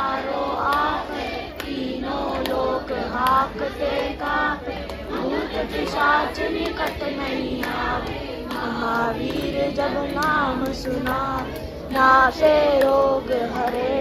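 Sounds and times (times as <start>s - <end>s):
women and children singing: 0.0s - 14.0s.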